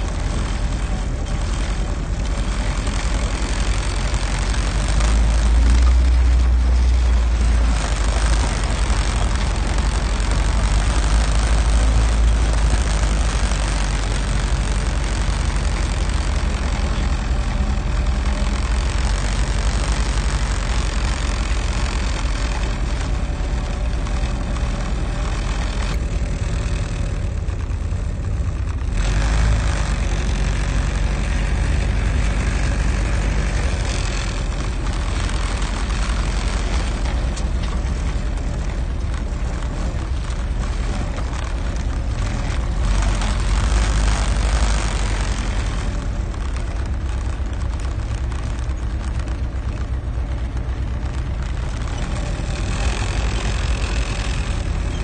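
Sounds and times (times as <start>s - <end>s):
jeep engine running: 0.0s - 55.0s.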